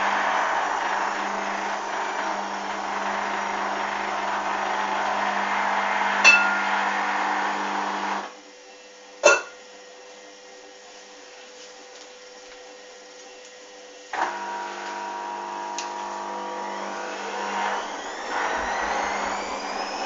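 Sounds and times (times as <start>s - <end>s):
washing machine running: 0.0s - 8.5s, 11.3s - 20.0s.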